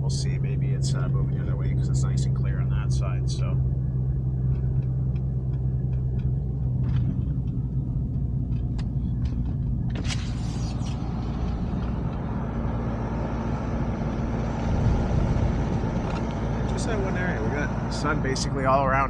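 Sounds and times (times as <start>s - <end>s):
truck engine and tyre drone: 0.0s - 19.0s.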